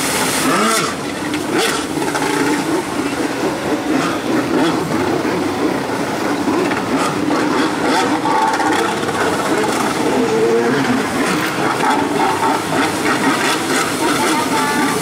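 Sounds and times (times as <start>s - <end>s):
jet ski engine: 0.0s - 15.0s.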